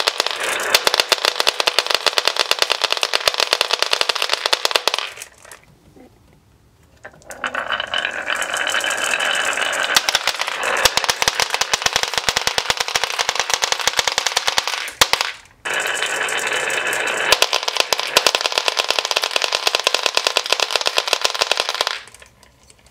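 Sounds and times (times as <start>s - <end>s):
glass marbles rolling and clattering: 0.0s - 5.6s, 7.0s - 22.4s.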